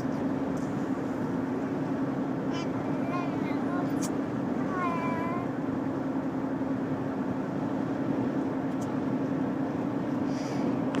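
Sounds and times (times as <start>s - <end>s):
car interior road and engine noise: 0.0s - 11.0s.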